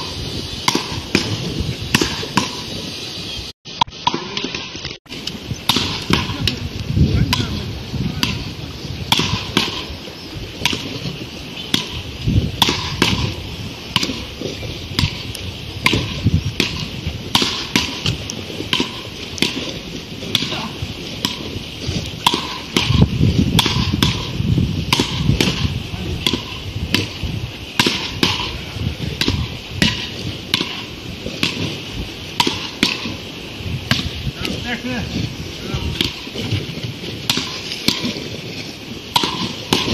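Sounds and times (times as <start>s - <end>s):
paddle rackets hitting ball: 0.0s - 2.8s, 3.8s - 6.6s, 7.2s - 39.9s.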